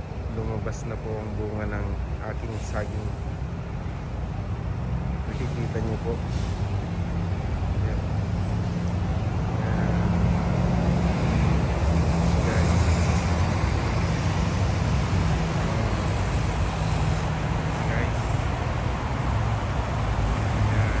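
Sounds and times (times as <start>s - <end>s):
constant hiss: 0.0s - 21.0s
low mechanical drone: 0.0s - 21.0s.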